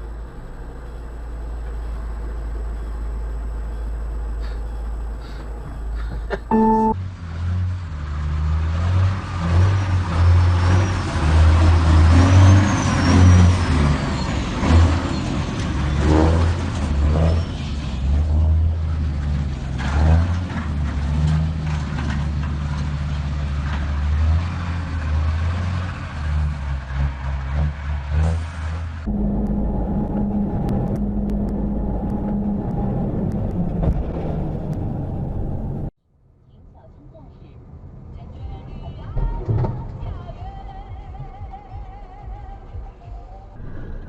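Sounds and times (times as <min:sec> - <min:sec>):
heavy vehicle engine droning: 0:00.0 - 0:36.0
road noise: 0:00.0 - 0:41.4.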